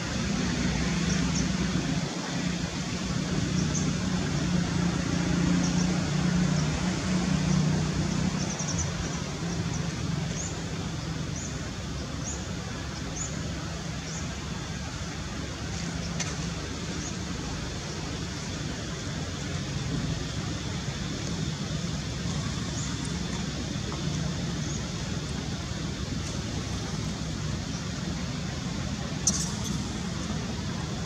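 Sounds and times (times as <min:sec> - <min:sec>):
low engine hum: 0:00.0 - 0:31.0
traffic noise: 0:00.0 - 0:31.0.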